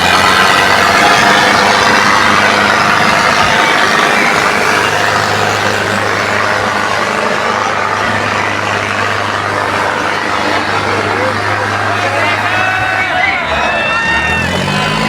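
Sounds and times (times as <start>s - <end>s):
diesel tractor engines running: 0.0s - 15.0s.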